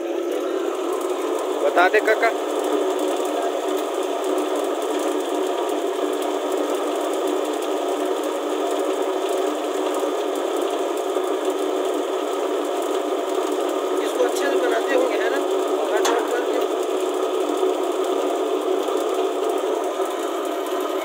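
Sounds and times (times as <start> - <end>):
diesel pump running: 0.0 - 21.0.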